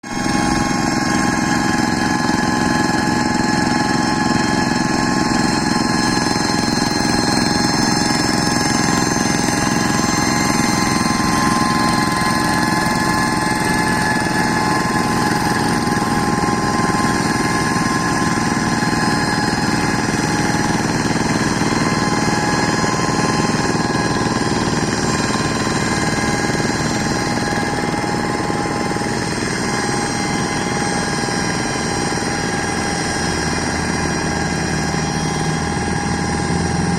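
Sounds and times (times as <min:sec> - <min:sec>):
tractor engine droning: 0:00.0 - 0:36.9.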